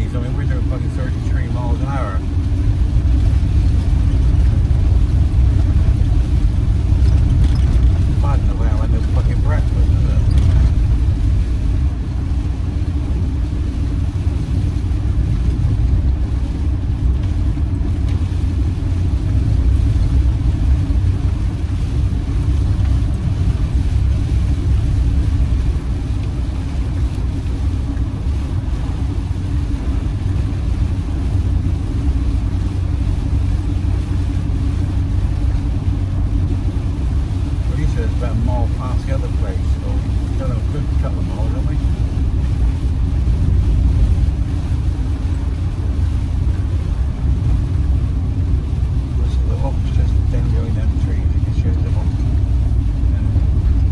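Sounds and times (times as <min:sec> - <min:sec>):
engine and road noise in cab: 0:00.0 - 0:53.9.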